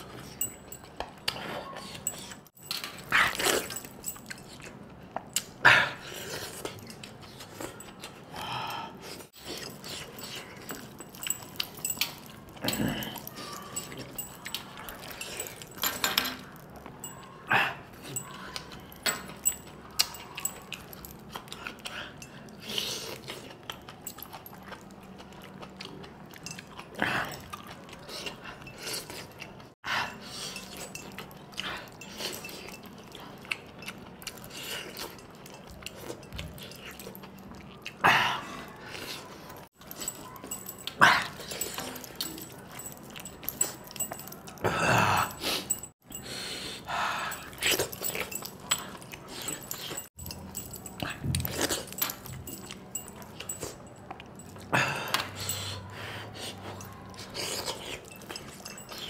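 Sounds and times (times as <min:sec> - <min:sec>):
man chewing food: 0:00.0 - 0:59.0.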